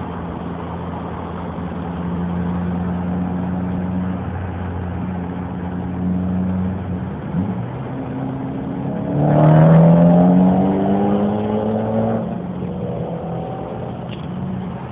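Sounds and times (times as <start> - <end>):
turbocharged car engine at full throttle: 0.0 - 14.9.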